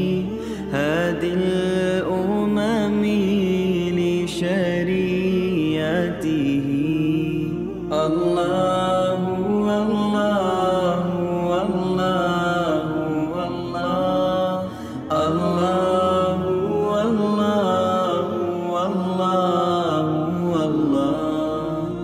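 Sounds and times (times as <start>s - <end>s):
chanted vocal sliding notes: 0.0s - 22.0s.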